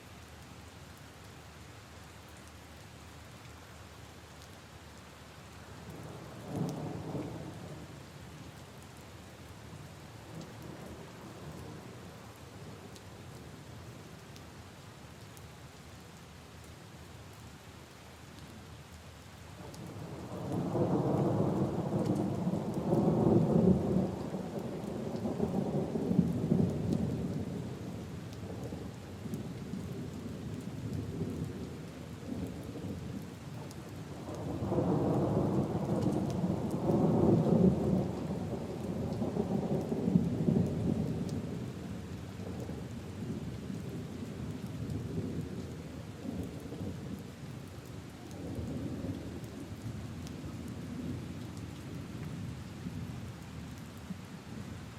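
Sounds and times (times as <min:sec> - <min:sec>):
rain falling on leaves and puddles: 0:00.0 - 0:54.9.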